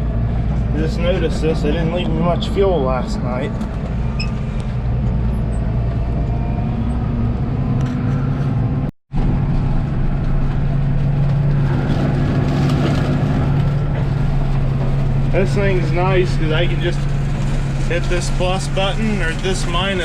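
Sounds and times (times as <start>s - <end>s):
tractor diesel engine drone: 0.0s - 20.0s.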